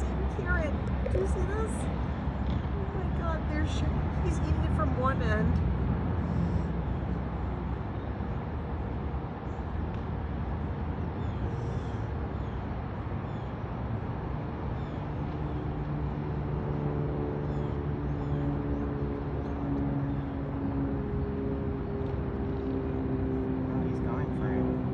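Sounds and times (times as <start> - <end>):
outdoor background rumble: 0.0 - 24.9
vehicle engine hum: 0.0 - 24.9.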